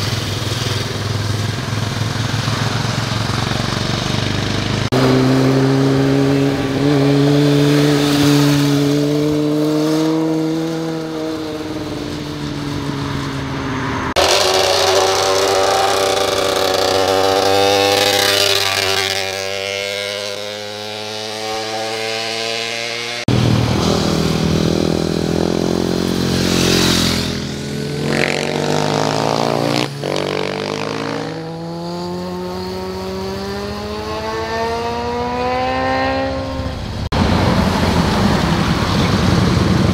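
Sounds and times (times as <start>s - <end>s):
motorcycle engines accelerating: 0.0s - 39.9s.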